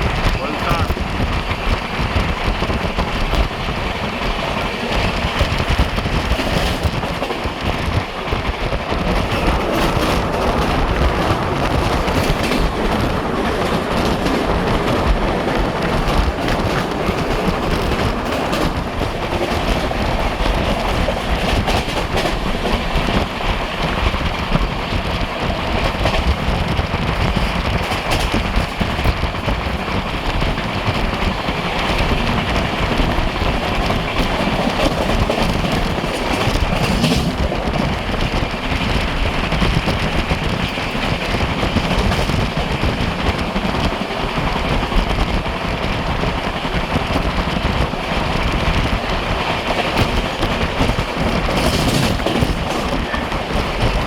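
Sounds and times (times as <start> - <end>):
train rushing at high speed: 0.0 - 54.0.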